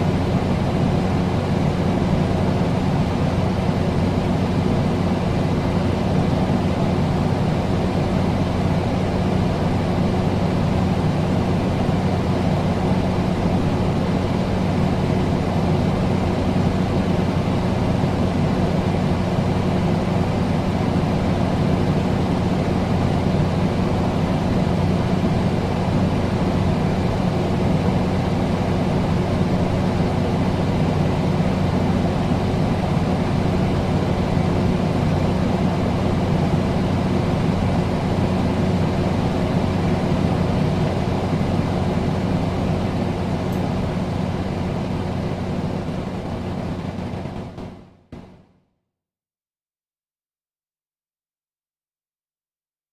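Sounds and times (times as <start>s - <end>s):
air conditioner humming: 0.0s - 47.7s.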